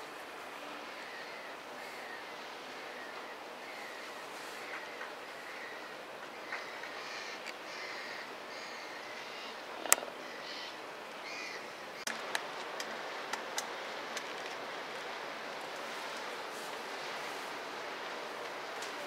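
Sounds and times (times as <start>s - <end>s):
outdoor background noise by water: 0.0s - 19.0s.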